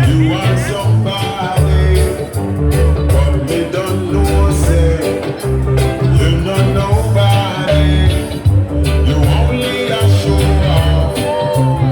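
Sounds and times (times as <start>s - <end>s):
heavy pulsing bass line: 0.0s - 11.9s
person singing: 0.0s - 11.9s
reggae music over sound system: 0.0s - 11.9s.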